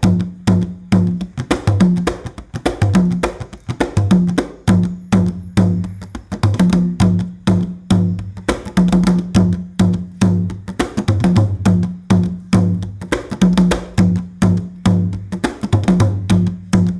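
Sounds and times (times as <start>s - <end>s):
drums in fast rhythm: 0.0s - 16.9s.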